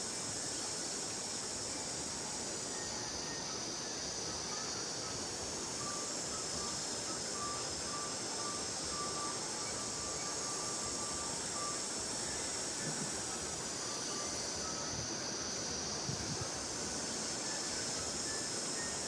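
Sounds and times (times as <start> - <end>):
insects droning in chorus: 0.0 - 19.0.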